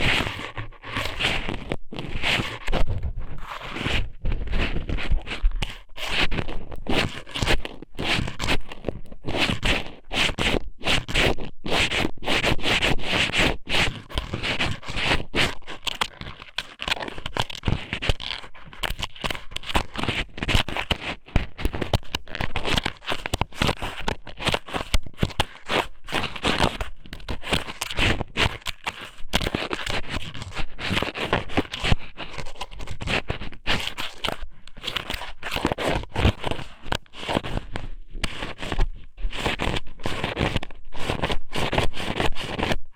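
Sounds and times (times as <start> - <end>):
close-up scraping and crackling: 0.0 - 42.9.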